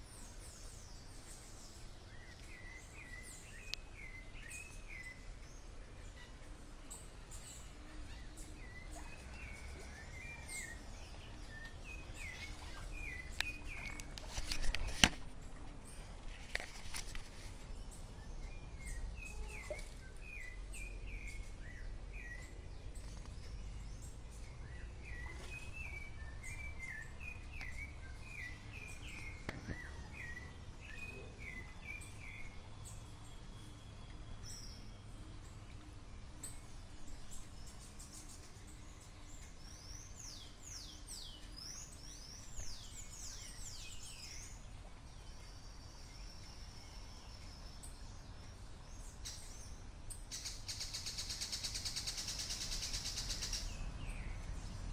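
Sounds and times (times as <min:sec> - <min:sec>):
background hiss: 0:00.0 - 0:54.9.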